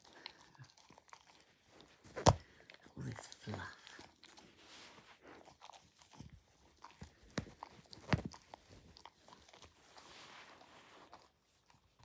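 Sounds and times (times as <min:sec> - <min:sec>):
dog gnawing plush toy: 0:00.0 - 0:12.0.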